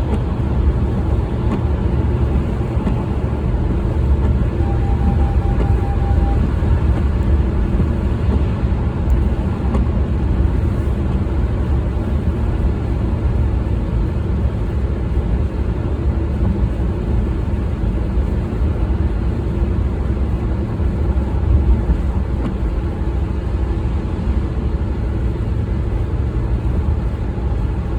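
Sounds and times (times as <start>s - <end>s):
car engine and tyres rumbling: 0.0s - 27.9s.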